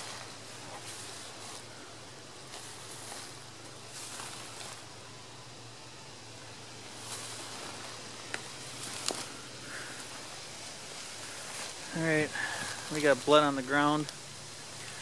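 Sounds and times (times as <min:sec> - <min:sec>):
footsteps in dry leaves: 0:00.0 - 0:15.0.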